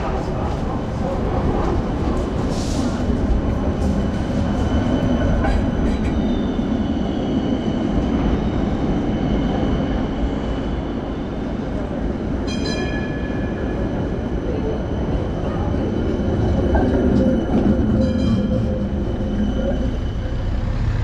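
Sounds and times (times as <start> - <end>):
rail vehicle rumbling with whine: 0.0 - 21.0.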